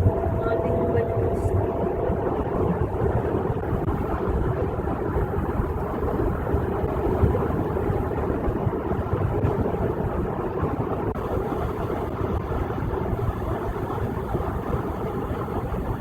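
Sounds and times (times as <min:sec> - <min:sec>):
car engine: 0:00.0 - 0:16.0.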